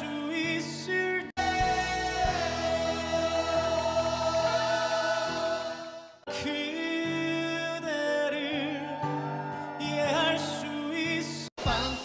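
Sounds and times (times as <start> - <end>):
men singing: 0.0 - 12.0.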